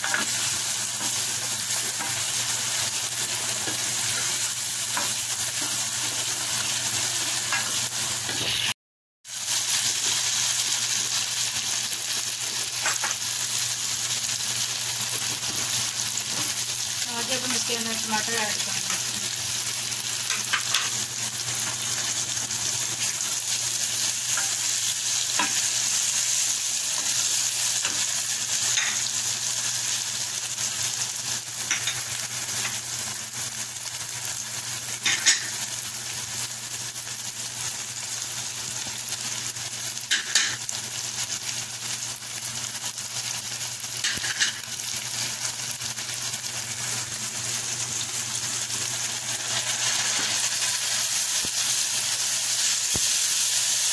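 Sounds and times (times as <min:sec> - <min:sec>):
vegetables sizzling in hot oil: 0:00.0 - 0:53.9.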